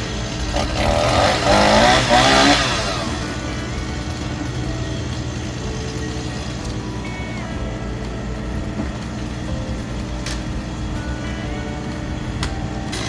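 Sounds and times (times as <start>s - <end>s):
engine humming steadily: 0.0s - 13.0s
motor revving: 0.0s - 13.0s.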